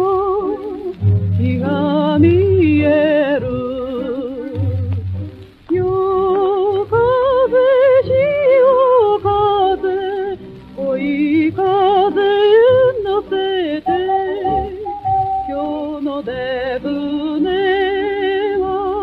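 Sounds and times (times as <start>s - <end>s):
old record of vocal melody with band: 0.0s - 19.0s.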